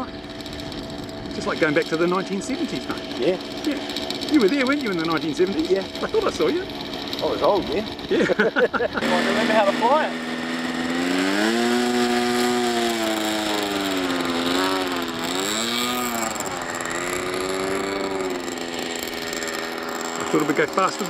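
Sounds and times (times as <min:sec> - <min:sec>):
model plane engine running: 0:00.0 - 0:21.0.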